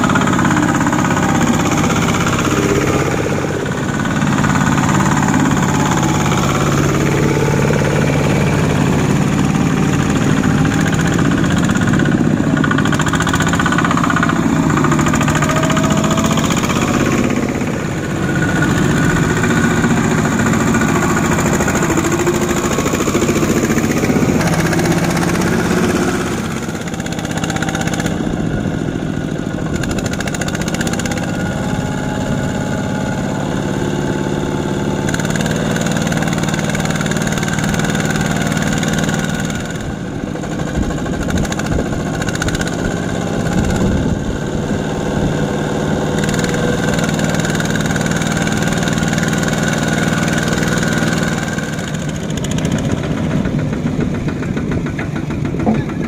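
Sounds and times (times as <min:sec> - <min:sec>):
diesel tractor engines running: 0:00.0 - 0:56.0.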